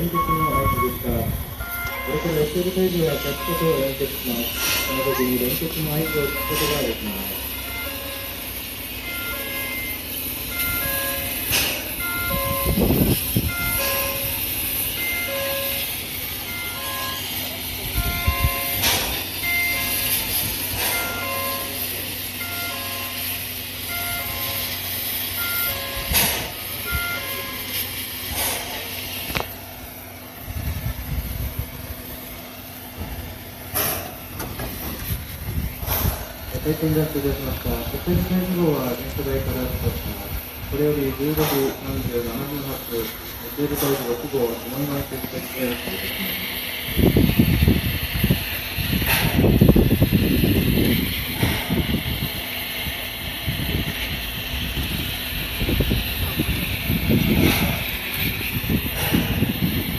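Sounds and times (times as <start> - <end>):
steam hiss: 0.0 - 59.9
steam locomotive rumbling: 0.0 - 59.9.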